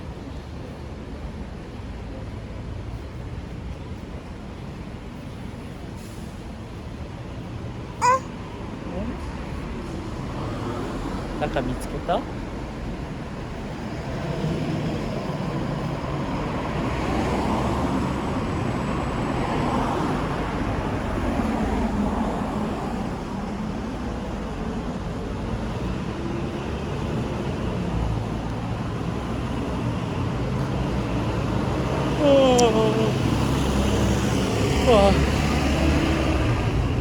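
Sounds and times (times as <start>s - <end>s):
cars passing by: 5.7s - 37.0s.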